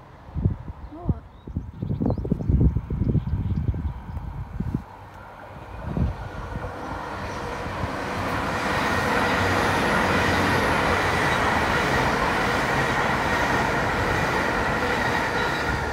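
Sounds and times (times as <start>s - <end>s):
high-speed train passing: 0.0s - 0.8s, 2.3s - 15.9s.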